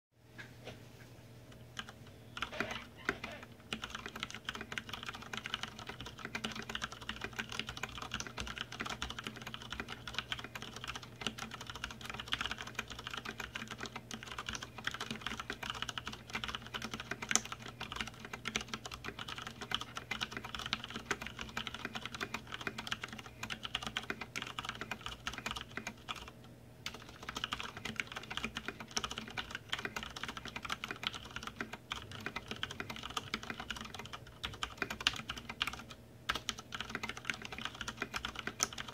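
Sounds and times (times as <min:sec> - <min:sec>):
fast mechanical keyboard typing: 0:01.8 - 0:38.9.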